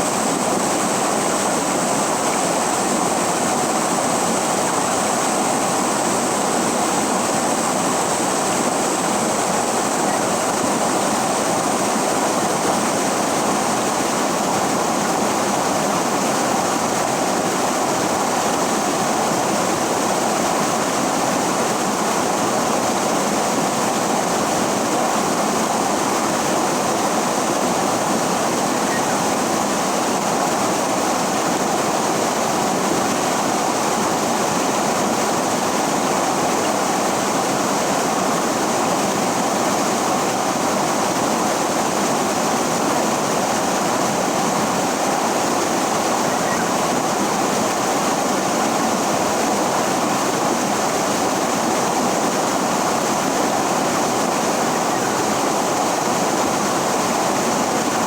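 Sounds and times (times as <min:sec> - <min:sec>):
river water rushing over rocks: 0:00.1 - 0:58.0.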